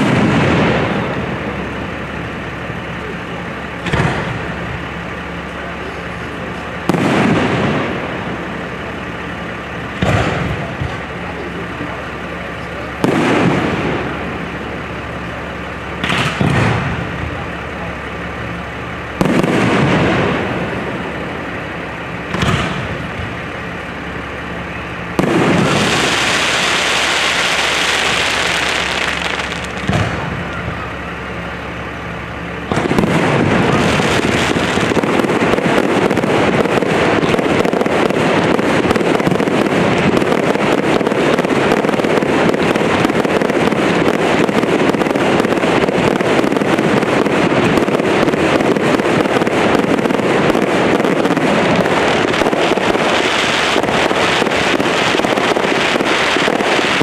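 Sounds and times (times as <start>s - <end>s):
firework bangs: 0.0s - 57.0s
firework crackling barrage: 0.0s - 57.0s
firework hissing: 0.0s - 57.0s.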